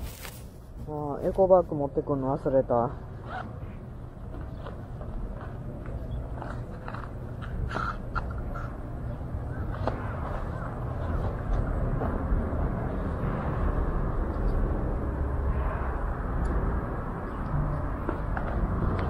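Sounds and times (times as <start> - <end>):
rumbling background noise: 0.0 - 19.0.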